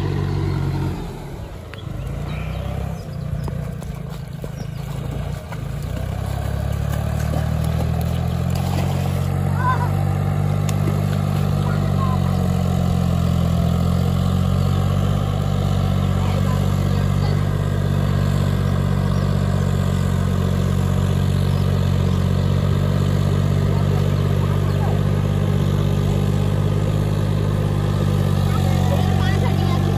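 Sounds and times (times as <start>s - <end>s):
tractor diesel engine droning: 0.0s - 29.9s.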